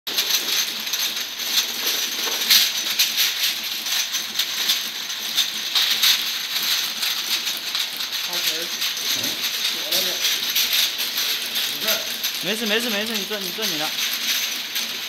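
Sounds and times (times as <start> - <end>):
labeling machine running: 0.1 - 15.0
tubes rattling against metal guides: 0.1 - 15.0.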